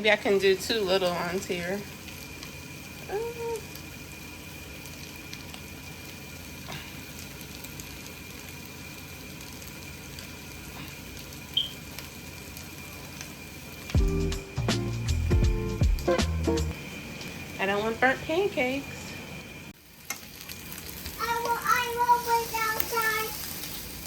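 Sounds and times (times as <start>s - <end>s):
food sizzling in frying pans: 0.0s - 24.0s.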